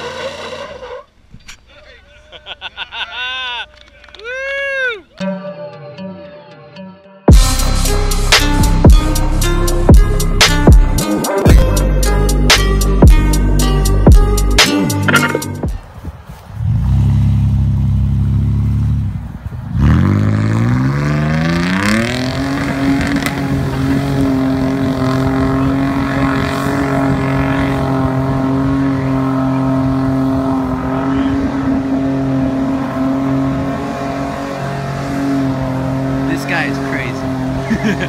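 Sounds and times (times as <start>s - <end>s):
engine revving: 0.0s - 1.1s, 7.3s - 15.7s, 16.6s - 38.0s.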